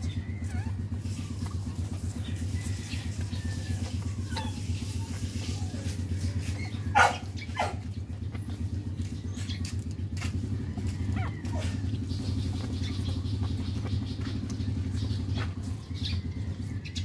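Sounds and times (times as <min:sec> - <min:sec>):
puppies squeaking: 0:00.0 - 0:09.6, 0:10.7 - 0:16.3.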